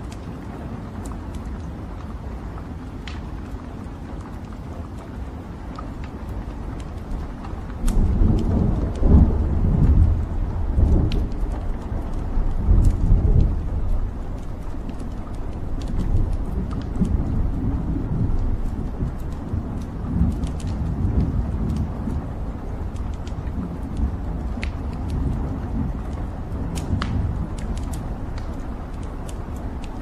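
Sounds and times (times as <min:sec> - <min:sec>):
logs crackling and popping: 0:00.0 - 0:30.0
low rumble of flames: 0:00.0 - 0:30.0.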